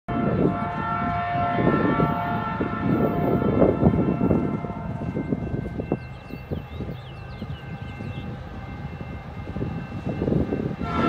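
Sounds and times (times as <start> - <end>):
distant locomotive air horn: 0.1 - 11.0.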